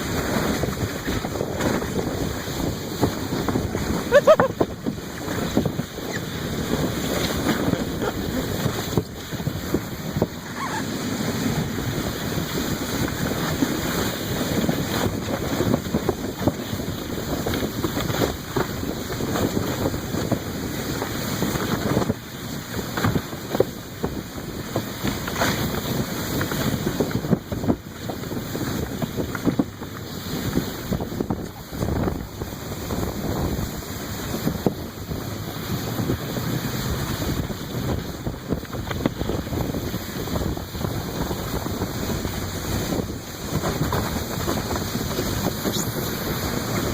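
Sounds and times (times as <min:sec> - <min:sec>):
sled scraping over snow: 0:00.0 - 0:46.9
wind buffeting microphone: 0:00.0 - 0:46.9.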